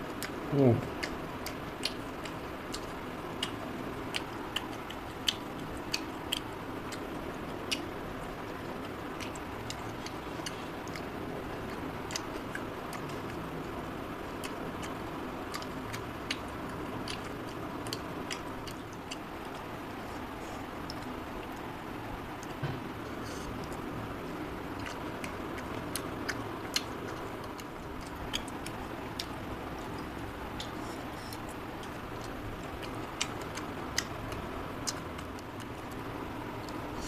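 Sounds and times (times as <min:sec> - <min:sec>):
person chewing with wet smacks: 0:00.0 - 0:37.0.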